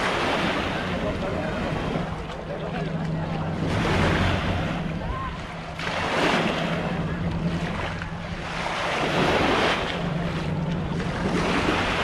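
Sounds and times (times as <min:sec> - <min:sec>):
small waves washing on shore: 0:00.0 - 0:12.0
steady low hum: 0:00.0 - 0:12.0.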